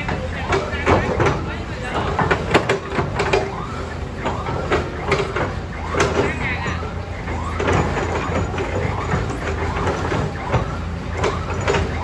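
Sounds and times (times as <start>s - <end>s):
diesel engine running: 0.0s - 12.0s
sharp metal knocks and clanks: 0.0s - 12.0s.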